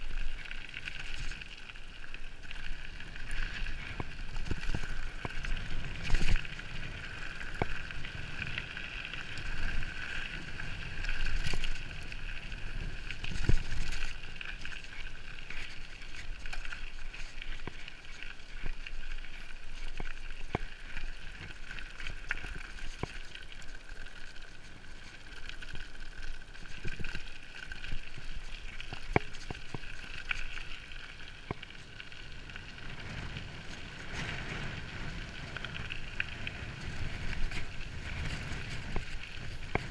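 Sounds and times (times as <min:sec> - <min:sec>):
bike rattling over bumps: 0:00.0 - 0:39.9
tyre and drivetrain noise: 0:00.0 - 0:39.9.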